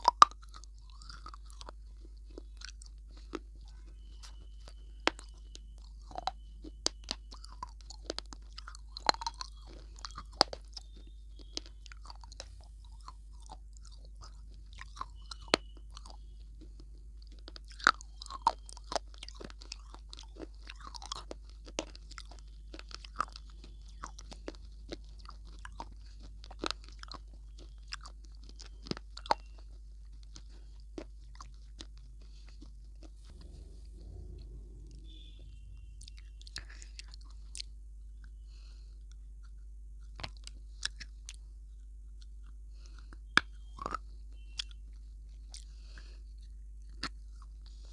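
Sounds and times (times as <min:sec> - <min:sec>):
crunchy food chewing: 0:00.0 - 0:47.9.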